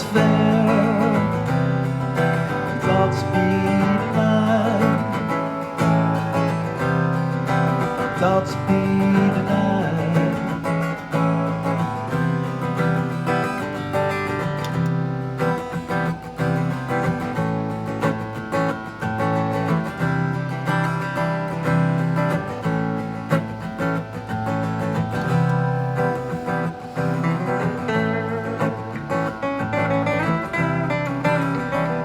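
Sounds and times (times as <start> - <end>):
strummed acoustic guitar: 0.0 - 32.0.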